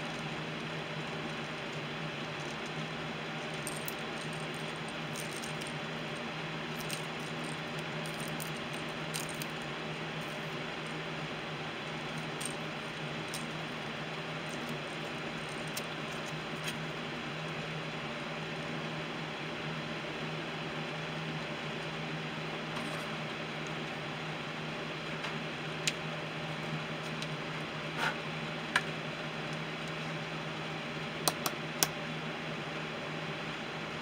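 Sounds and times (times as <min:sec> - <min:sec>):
mechanical hum with hiss: 0:00.0 - 0:34.0.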